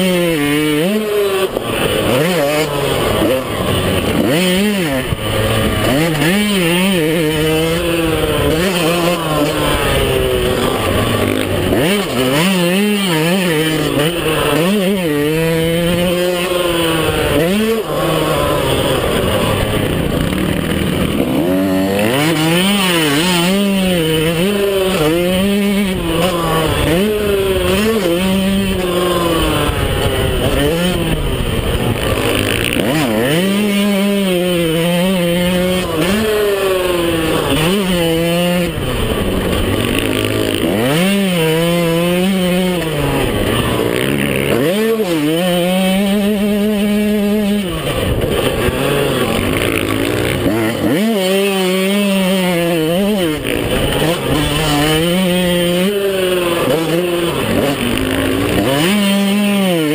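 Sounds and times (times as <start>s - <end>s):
two-stroke motocross engine revving: 0.0s - 59.9s.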